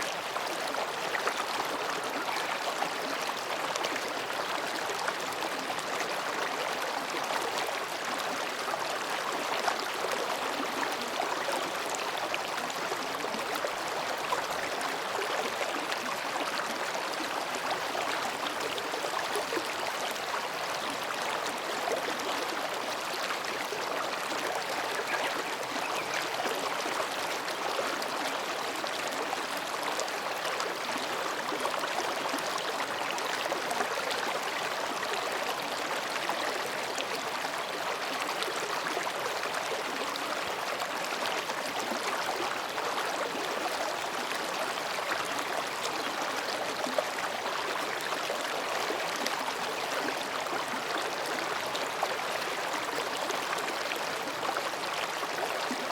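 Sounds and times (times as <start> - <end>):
stream babbling over rocks: 0.0 - 55.9.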